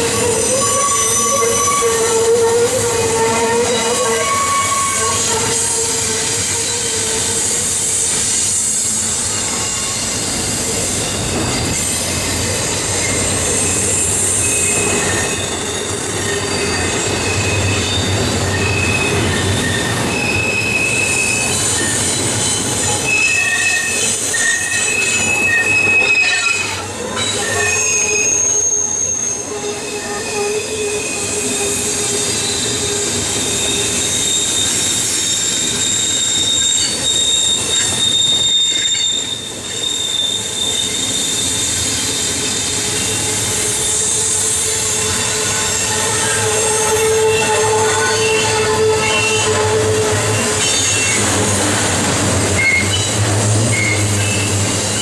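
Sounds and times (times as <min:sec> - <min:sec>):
train rumble: 0:00.0 - 0:55.0
train wheels squealing on rail: 0:00.0 - 0:55.0.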